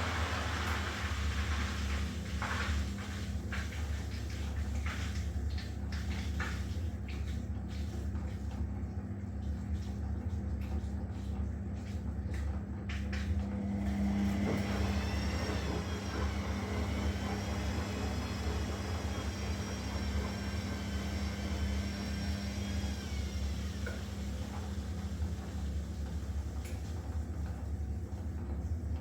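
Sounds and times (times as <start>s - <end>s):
washing machine motor whine: 0.0s - 29.0s.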